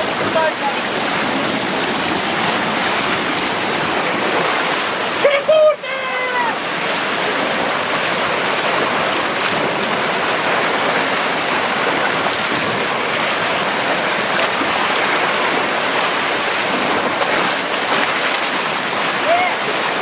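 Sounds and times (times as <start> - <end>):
surf rushing against rocks: 0.0 - 20.0.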